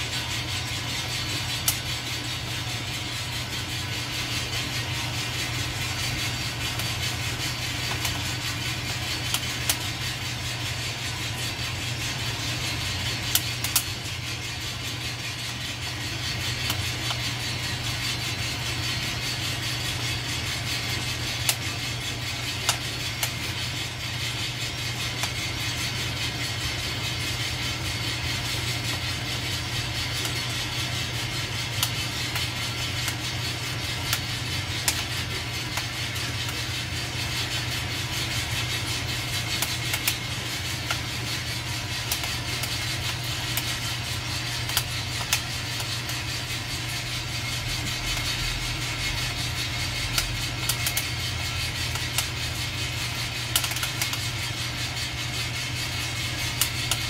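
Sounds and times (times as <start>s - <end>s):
coffee beans tumbling in a drum: 0.0s - 57.0s.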